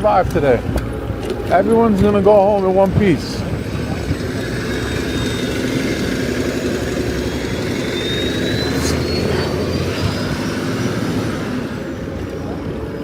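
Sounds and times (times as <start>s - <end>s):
motorcycle engine running: 1.0s - 13.0s
thin high whine: 1.2s - 13.0s.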